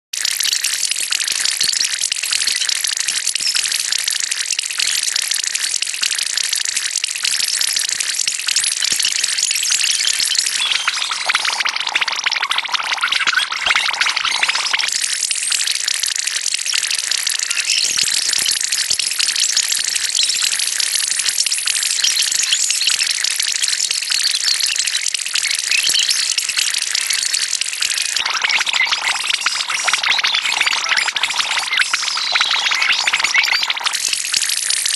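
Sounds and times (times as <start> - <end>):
distorted crackling noise: 0.2 - 34.9.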